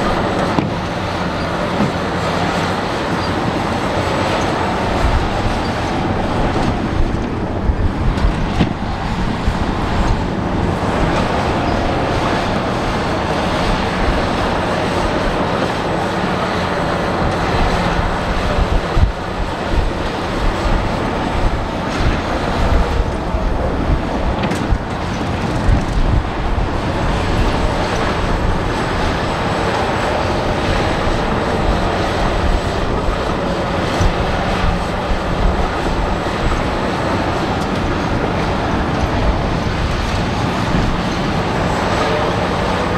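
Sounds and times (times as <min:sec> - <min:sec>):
bulldozer engines rumbling: 0:00.0 - 0:42.9
machinery clatter: 0:00.0 - 0:42.9.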